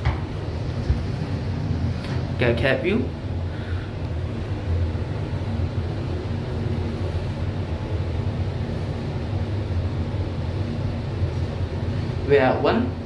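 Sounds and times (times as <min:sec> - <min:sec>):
lift hum and rumble: 0:00.0 - 0:13.0.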